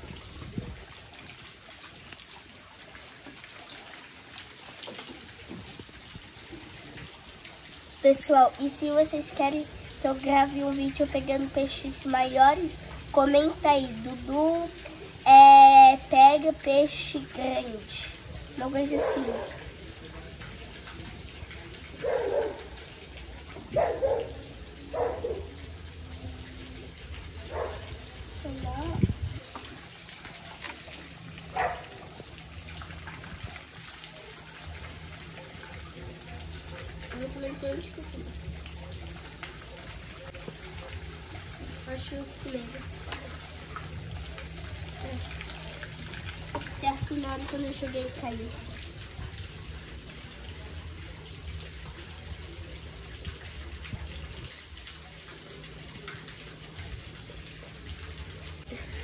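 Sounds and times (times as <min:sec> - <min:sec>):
running water trickling: 0:00.0 - 0:59.0.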